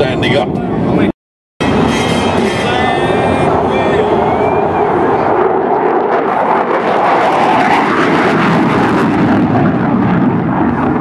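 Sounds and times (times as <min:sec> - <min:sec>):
fighter jet engine roaring past: 0:00.0 - 0:11.0.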